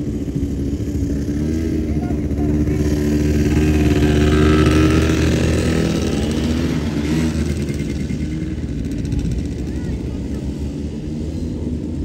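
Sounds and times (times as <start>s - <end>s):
quad bike engine driving past: 0.0s - 12.0s.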